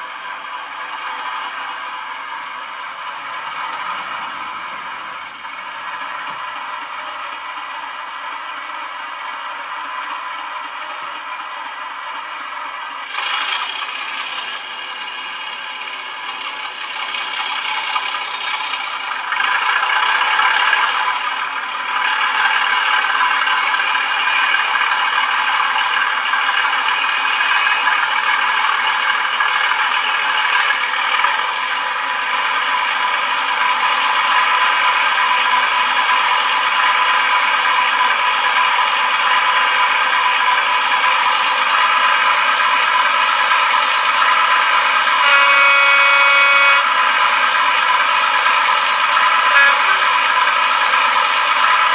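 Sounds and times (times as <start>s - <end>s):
diesel engine clattering from small speaker: 0.0s - 51.9s.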